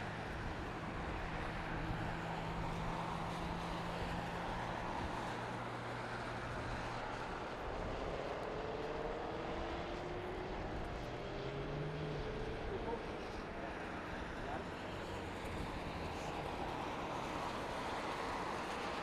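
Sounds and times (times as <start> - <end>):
distant jet engine rumble: 0.0 - 19.0.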